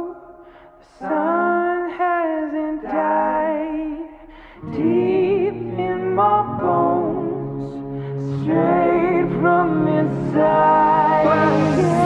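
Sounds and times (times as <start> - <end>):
slow song with held sung notes: 0.0 - 12.0.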